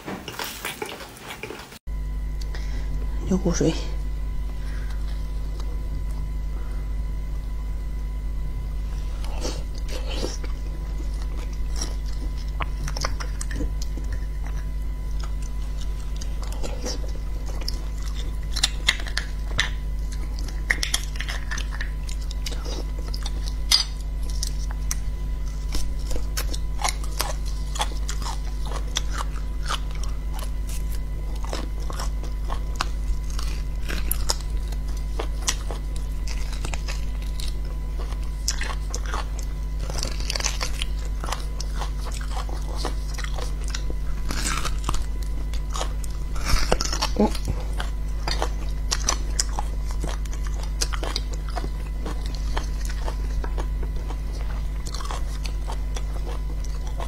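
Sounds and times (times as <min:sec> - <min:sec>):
low electrical hum: 0:00.0 - 0:57.0
wet chewing and biting: 0:08.8 - 0:57.0.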